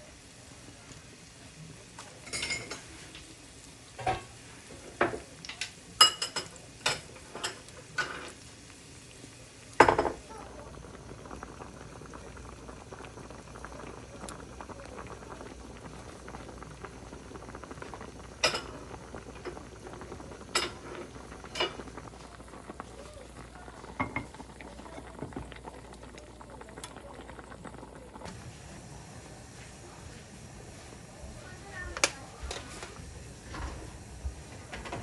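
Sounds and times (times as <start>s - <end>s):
pot of soup boiling: 0.0s - 35.0s.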